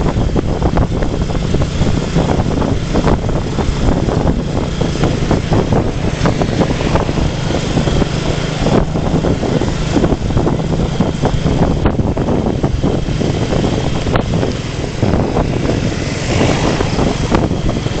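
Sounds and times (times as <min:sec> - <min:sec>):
motorcycle engine hum: 0:00.0 - 0:18.0
wind buffeting microphone: 0:00.0 - 0:18.0.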